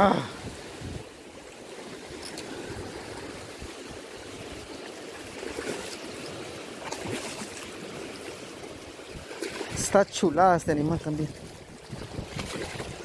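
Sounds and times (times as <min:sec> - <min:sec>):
rushing churning water: 0:00.0 - 0:13.0.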